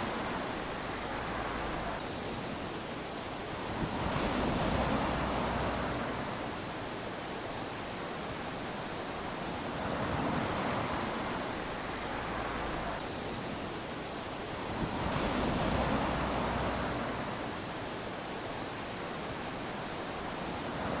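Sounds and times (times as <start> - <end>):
small waves lapping on a beach: 0.0 - 21.0.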